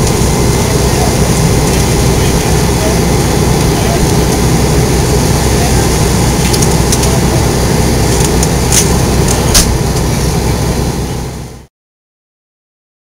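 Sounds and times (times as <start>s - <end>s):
engine idling: 0.0s - 11.7s.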